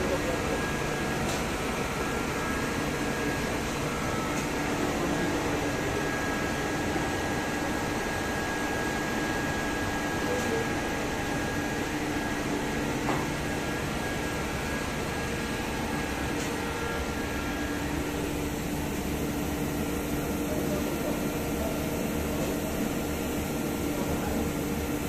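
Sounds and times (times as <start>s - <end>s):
machine whirring and humming: 0.0s - 25.0s.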